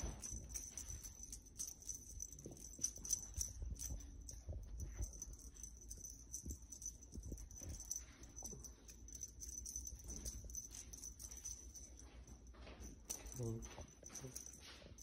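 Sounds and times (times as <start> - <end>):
small paws pattering on carpet: 0.0 - 15.0.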